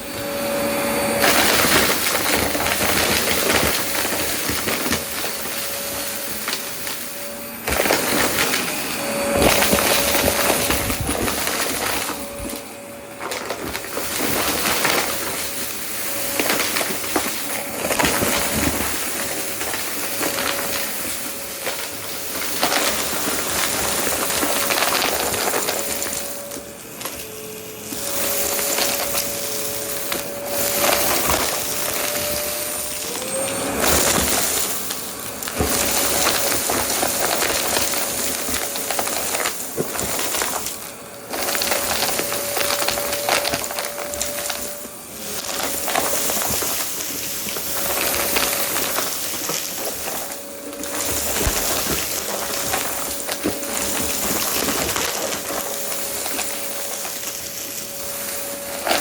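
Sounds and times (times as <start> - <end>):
vacuum cleaner motor whine: 0.0 - 59.0
debris crackling up nozzle: 1.0 - 59.0.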